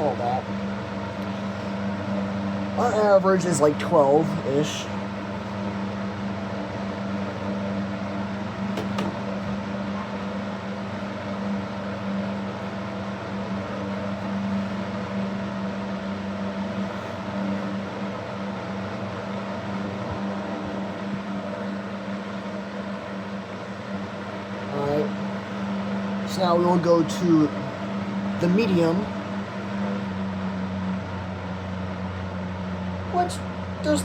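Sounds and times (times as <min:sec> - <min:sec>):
box fan motor humming: 0:00.0 - 0:34.0
rush of fan blade air: 0:00.0 - 0:34.0.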